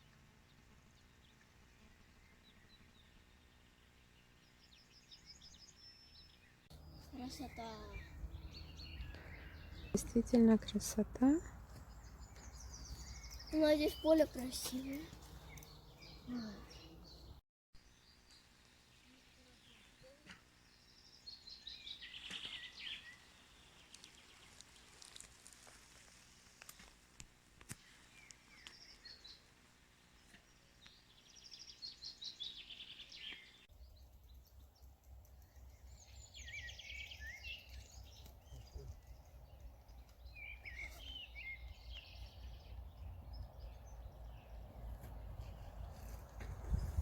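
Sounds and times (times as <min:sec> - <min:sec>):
songbirds trilling: 0:00.5 - 0:17.4, 0:20.6 - 0:24.6, 0:30.2 - 0:47.0.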